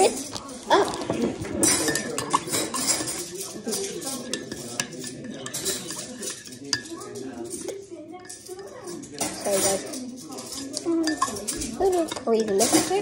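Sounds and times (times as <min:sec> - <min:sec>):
spoon clinking in ceramic mug: 0:01.6 - 0:13.0.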